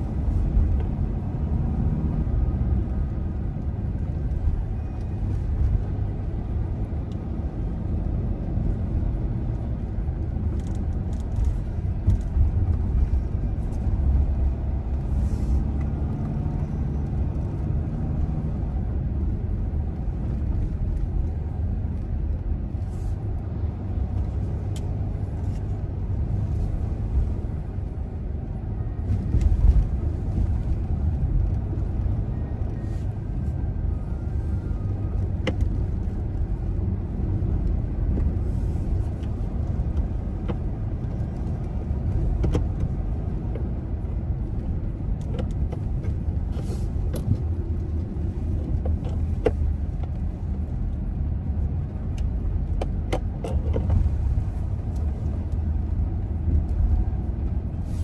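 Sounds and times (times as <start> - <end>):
road and engine rumble: 0.0 - 58.0.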